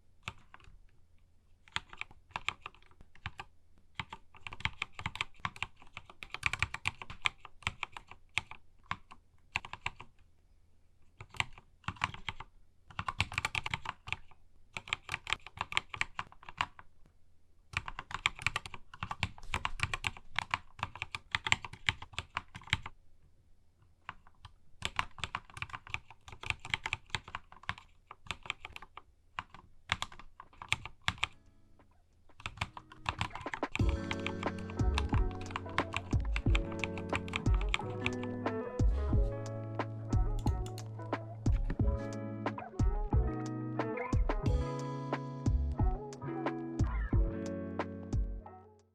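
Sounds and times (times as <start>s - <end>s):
mechanical keyboard typing: 0.2s - 0.8s, 1.6s - 10.2s, 11.2s - 16.9s, 17.7s - 23.0s, 24.0s - 31.4s, 32.3s - 44.5s.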